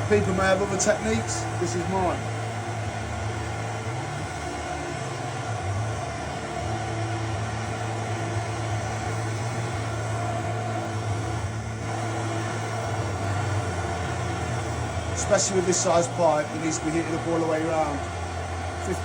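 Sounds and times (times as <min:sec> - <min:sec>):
blow lamp flame burning: 0:00.0 - 0:19.0.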